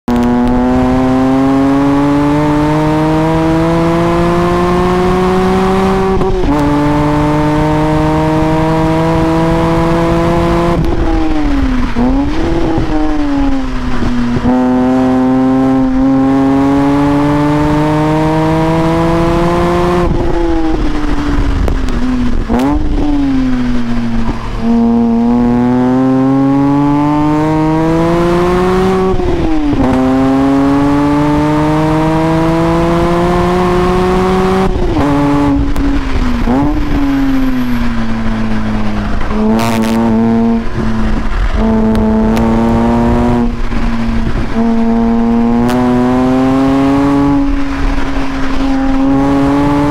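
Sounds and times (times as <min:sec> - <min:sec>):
car engine revving: 0:00.0 - 0:49.9
throttle blips on downshifts: 0:00.1 - 0:49.9.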